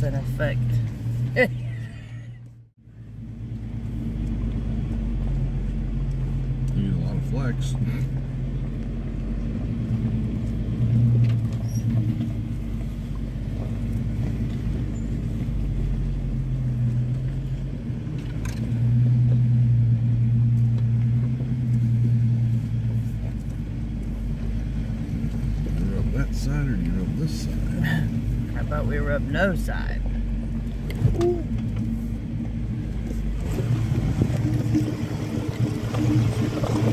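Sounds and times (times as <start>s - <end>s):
off-road vehicle engine: 0.0s - 36.9s.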